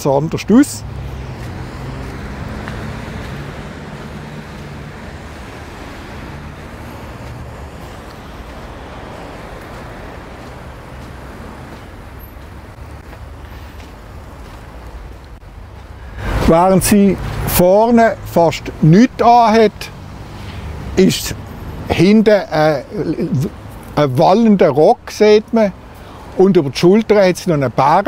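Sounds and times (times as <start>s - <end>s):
passing road traffic: 0.0s - 28.0s.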